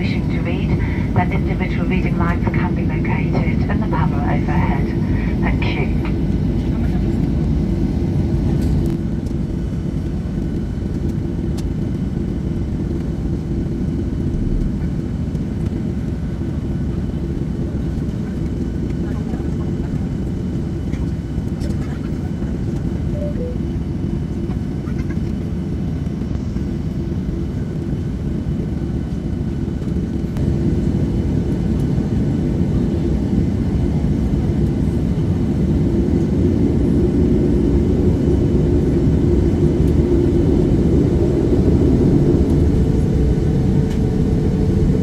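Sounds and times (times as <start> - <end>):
airplane engine drone in cabin: 0.0 - 45.0.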